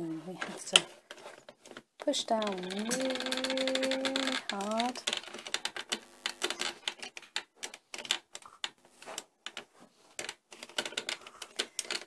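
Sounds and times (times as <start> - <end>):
plastic toy clicking and creaking: 0.3 - 12.0.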